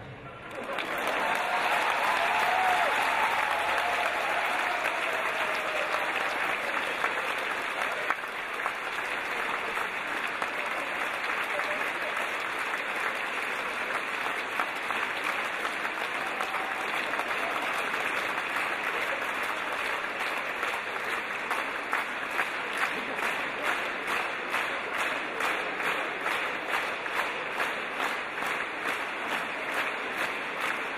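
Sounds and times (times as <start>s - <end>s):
audience applause: 0.0s - 30.9s
rhythmic clapping in unison: 0.5s - 30.9s.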